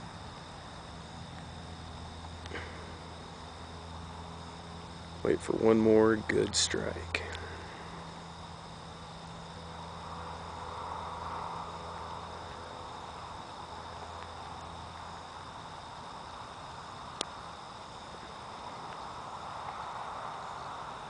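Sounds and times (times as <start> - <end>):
faint hiss: 0.0 - 21.0
insects trilling: 0.0 - 21.0.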